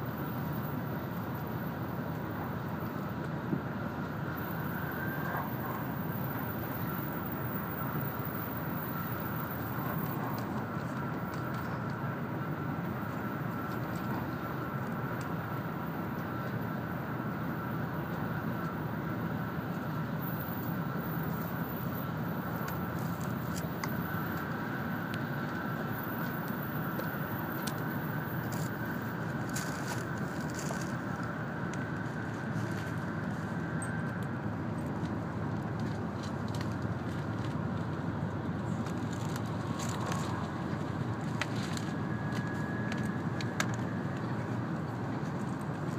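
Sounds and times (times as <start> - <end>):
faint steady whine: 0.0 - 45.9.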